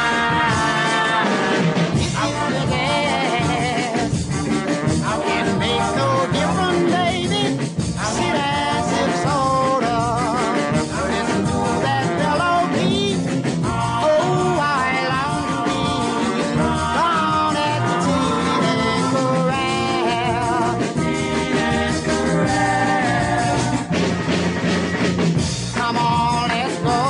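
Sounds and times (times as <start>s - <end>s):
person singing with vibrato: 0.0s - 24.0s, 25.8s - 27.0s
band accompaniment: 0.0s - 27.0s.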